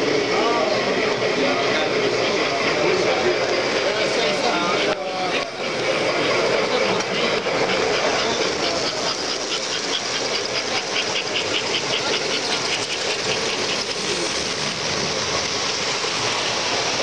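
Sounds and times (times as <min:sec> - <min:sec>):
model train motor and wheel rumble: 0:00.0 - 0:17.0.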